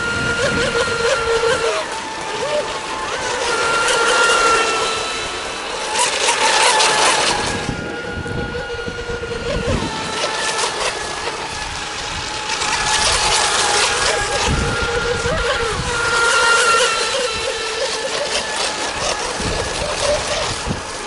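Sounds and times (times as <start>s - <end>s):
model boat motors whining: 0.0s - 21.0s.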